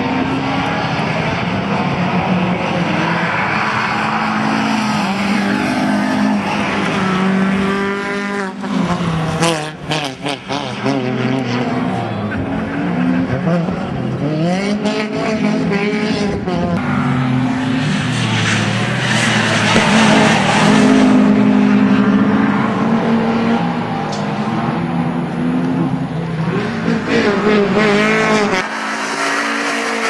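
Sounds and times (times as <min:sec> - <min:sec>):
rally car engine at full throttle: 0:00.0 - 0:30.0.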